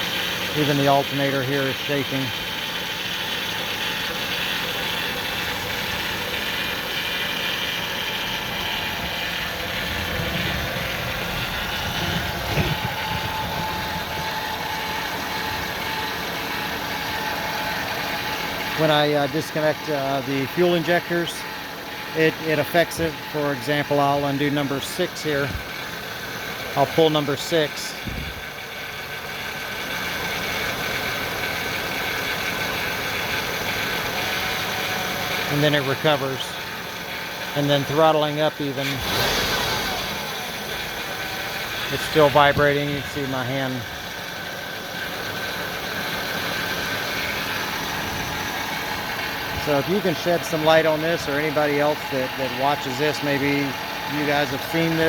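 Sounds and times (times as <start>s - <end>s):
engine rough idling: 0.0s - 55.0s.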